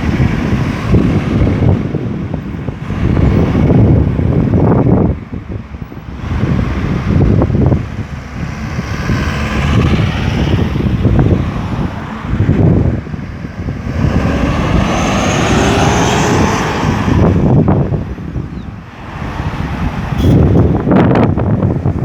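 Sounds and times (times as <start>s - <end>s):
car and truck engines rumbling: 0.0s - 22.0s
vehicles passing with tyre noise: 0.0s - 22.0s.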